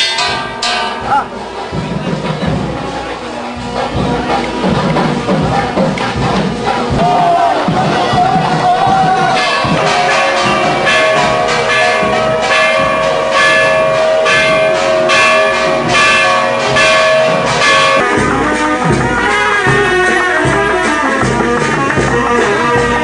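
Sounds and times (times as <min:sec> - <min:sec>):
bells ringing: 0:00.0 - 0:21.6
drums beating: 0:00.0 - 0:23.0.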